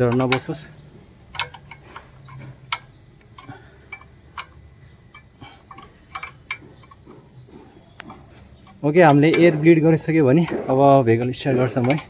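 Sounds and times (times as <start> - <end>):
spanner clicking on metal nuts: 0.0 - 12.0.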